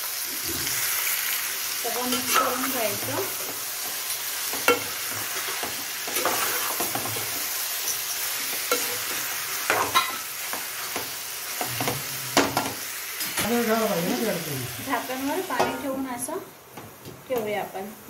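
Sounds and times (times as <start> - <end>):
chicken sizzling in hot oil: 0.0 - 16.4.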